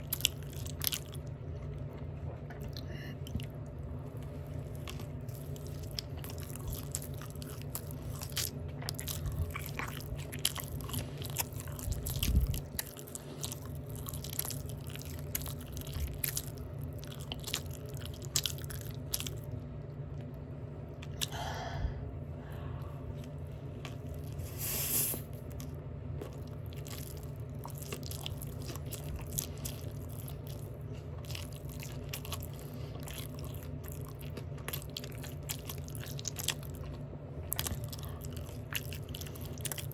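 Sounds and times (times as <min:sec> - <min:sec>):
open-mouth chewing: 0:00.0 - 0:20.4, 0:25.5 - 0:39.9.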